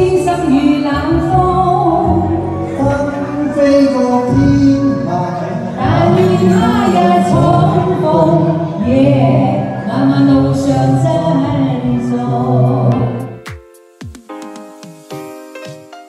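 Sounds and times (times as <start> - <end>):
man and woman singing duet: 0.0 - 13.3
backing music: 0.0 - 16.0.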